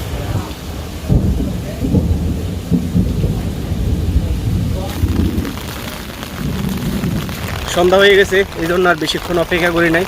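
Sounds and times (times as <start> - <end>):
loud low rumble: 0.0 - 8.2
rain: 0.0 - 10.0.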